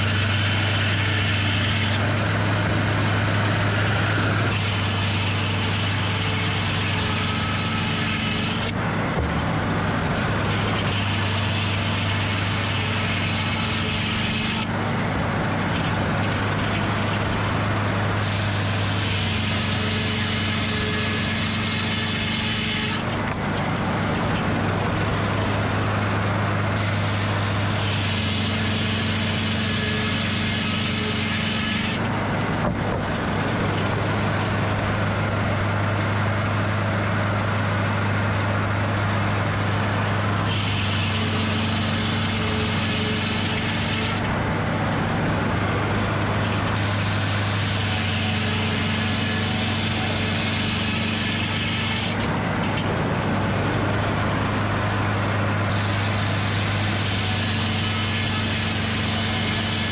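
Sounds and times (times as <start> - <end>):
circular saw cutting: 0.0 - 59.9
sawmill engine humming: 0.0 - 59.9.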